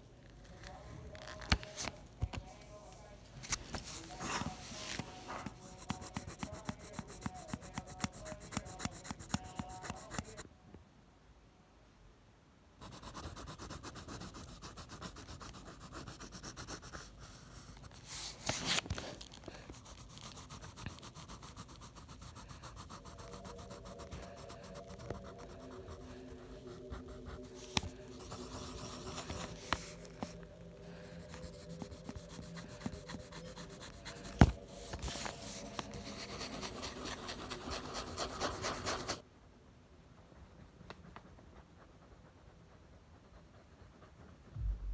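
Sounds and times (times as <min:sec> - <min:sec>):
pencil scratching on paper: 0:03.7 - 0:10.4, 0:12.8 - 0:39.2, 0:40.4 - 0:44.5.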